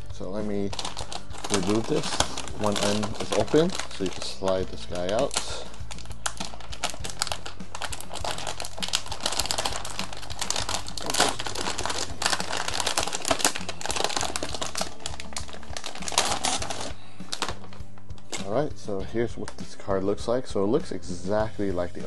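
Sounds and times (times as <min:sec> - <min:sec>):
plastic bag crinkling: 0:00.6 - 0:18.5.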